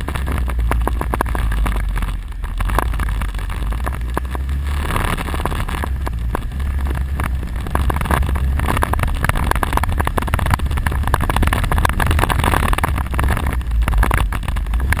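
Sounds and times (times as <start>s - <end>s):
quad bike engine running: 0.0s - 15.0s
wind noise on microphone: 0.0s - 15.0s.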